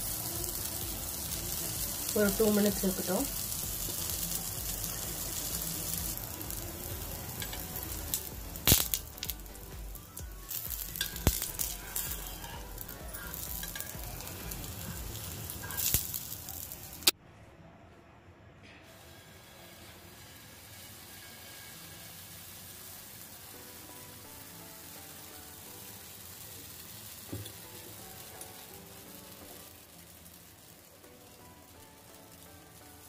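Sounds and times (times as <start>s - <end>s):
batter sizzling in frying pan: 0.0s - 17.2s, 18.9s - 33.0s.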